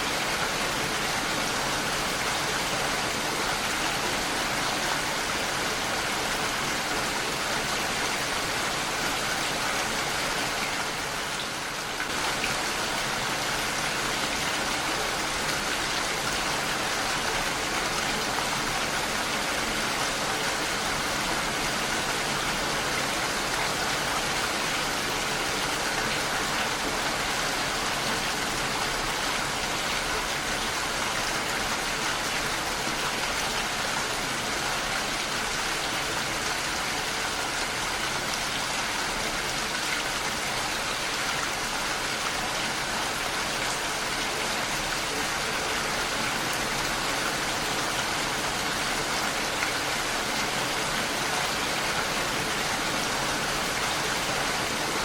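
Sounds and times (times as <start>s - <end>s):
heavy rain on a window: 0.0s - 55.0s.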